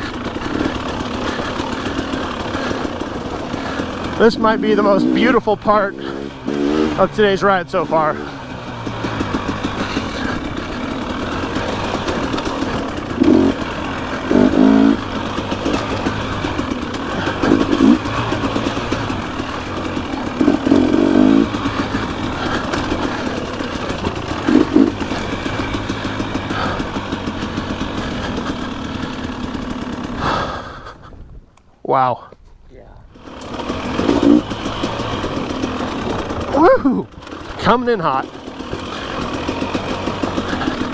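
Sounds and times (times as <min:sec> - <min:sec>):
dirt bike engine revving: 0:00.0 - 0:31.0, 0:33.1 - 0:40.9.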